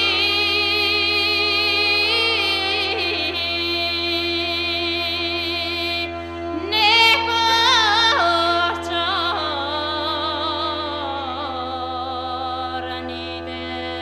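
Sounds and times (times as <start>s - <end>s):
sustained drone: 0.0s - 14.0s.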